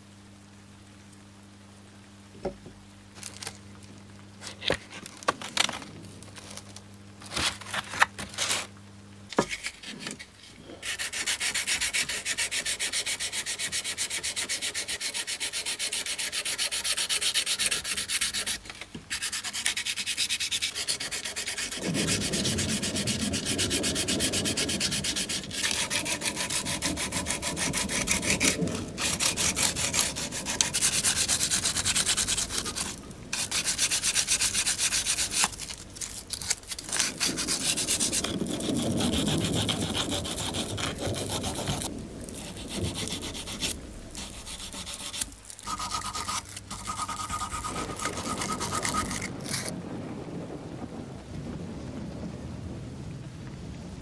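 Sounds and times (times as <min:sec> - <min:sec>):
sandpaper rubbing: 0:04.4 - 0:08.7, 0:09.4 - 0:49.7.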